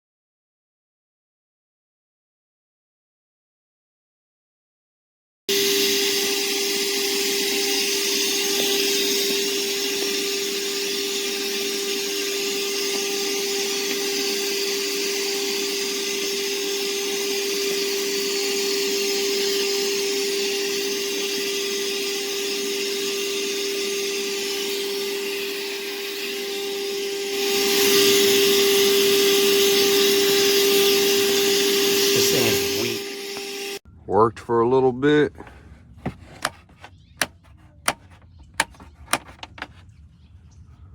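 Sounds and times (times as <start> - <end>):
shop vacuum motor whining: 5.5 - 33.8, 35.4 - 39.8.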